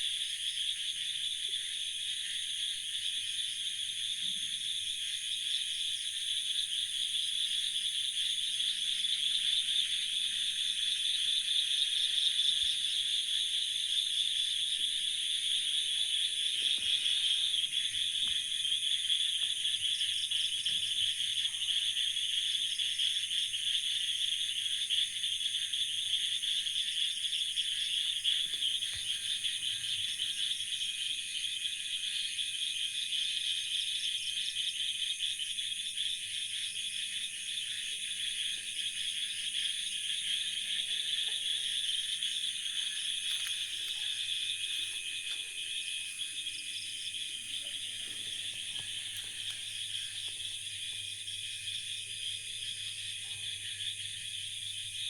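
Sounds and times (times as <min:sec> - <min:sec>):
frogs and insects trilling: 0:00.0 - 0:55.0.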